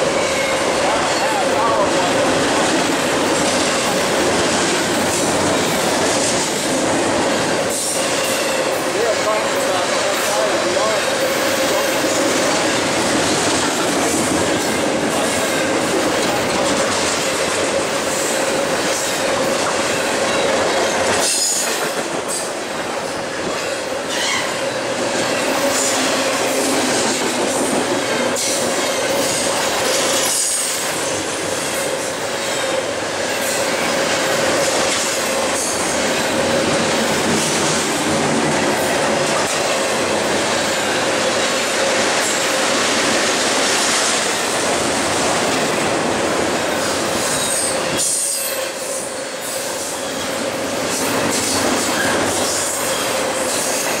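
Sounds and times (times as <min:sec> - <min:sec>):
train wheels rushing on rail: 0:00.0 - 0:54.0.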